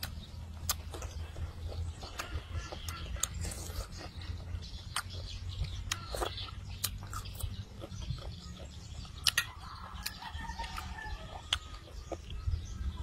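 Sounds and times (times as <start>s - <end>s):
person chewing with mouth smacks: 0.0s - 12.4s.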